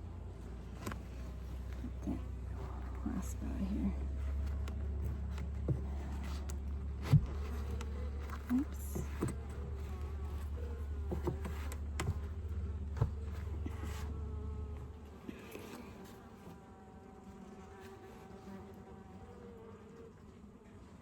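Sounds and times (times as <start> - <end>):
bees buzzing: 0.3 - 21.0.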